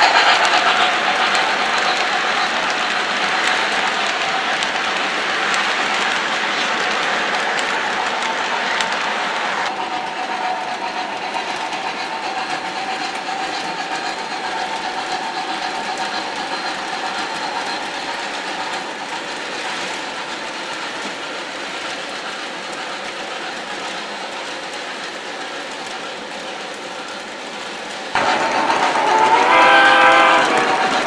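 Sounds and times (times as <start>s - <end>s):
model train motor whir: 0.0s - 27.6s, 28.2s - 31.0s
wheels clattering on track: 0.0s - 31.0s.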